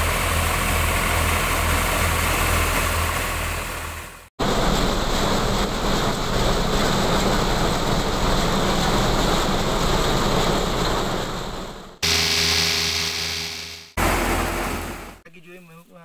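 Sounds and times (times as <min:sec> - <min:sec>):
threshing machine running: 0:00.0 - 0:15.2.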